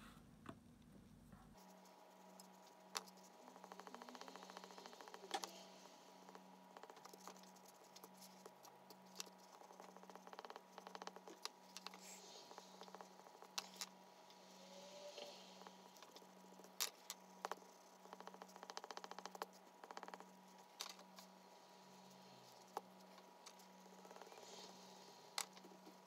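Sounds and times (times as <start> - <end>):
low steady hum: 0.0 - 26.0
oil pastel scratching on paper: 1.6 - 26.0.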